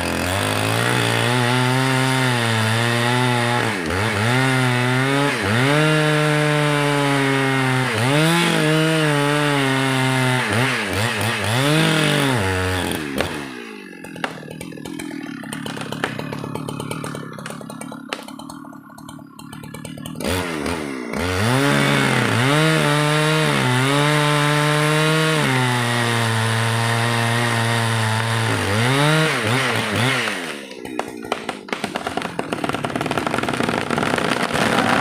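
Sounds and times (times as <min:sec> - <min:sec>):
chainsaw cutting wood: 0:00.0 - 0:35.0
chainsaw idling: 0:00.0 - 0:35.0.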